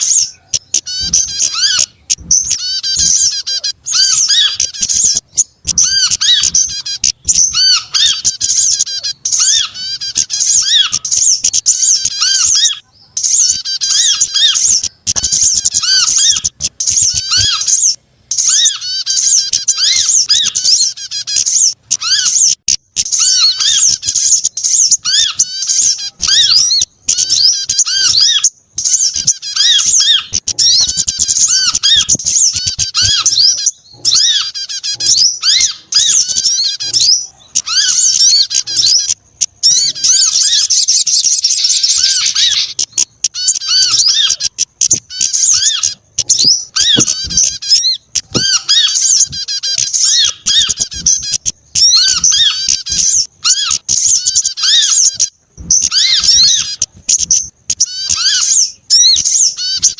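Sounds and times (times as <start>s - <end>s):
bird trill: 0.0s - 59.9s
small songbirds chirping: 0.0s - 59.9s.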